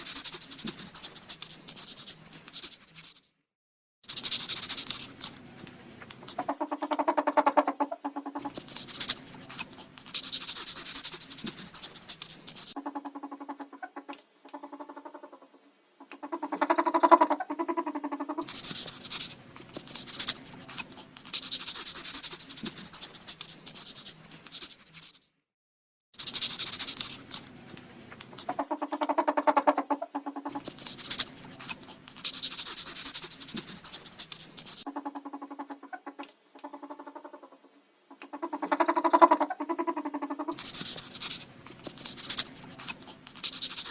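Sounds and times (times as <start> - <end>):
ferret buzzy calls: 0.0 - 3.2, 4.0 - 5.5, 6.1 - 25.1, 26.2 - 43.9
ferret hissing: 0.0 - 3.2, 4.0 - 25.2, 26.2 - 37.6, 38.2 - 43.9.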